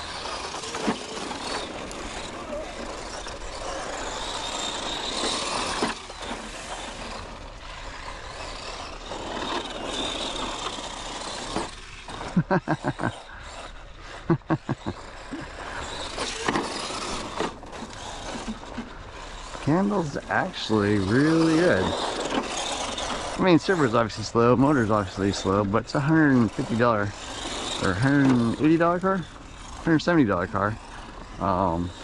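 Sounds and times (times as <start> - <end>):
electric motor whine: 0.0 - 32.0
tyres crunching on dirt: 0.0 - 32.0.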